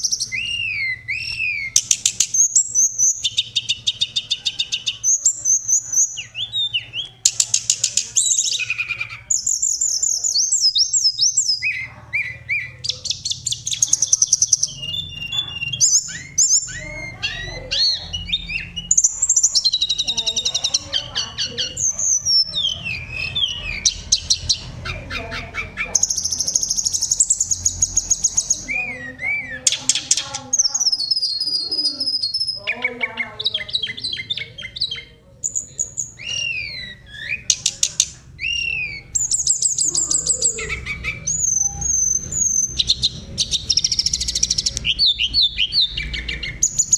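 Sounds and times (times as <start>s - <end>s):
bird singing whistles and trills: 0.0s - 46.9s.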